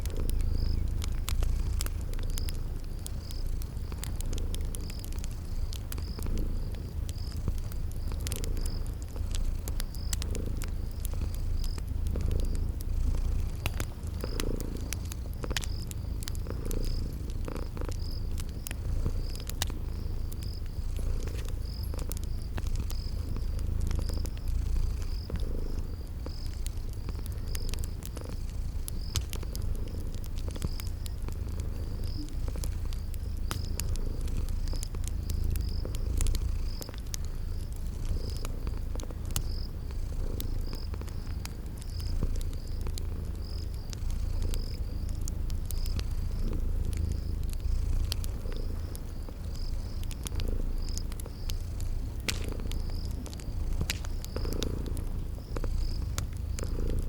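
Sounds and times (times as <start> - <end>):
cat purring: 0.0 - 57.0
crickets chirping: 0.0 - 57.0
fireplace fire crackling: 0.0 - 57.0.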